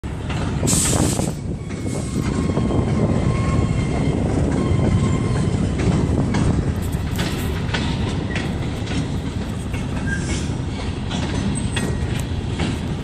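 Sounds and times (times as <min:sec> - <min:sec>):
freight train rumbling: 0:00.0 - 0:13.0
wheels screeching: 0:00.1 - 0:13.0.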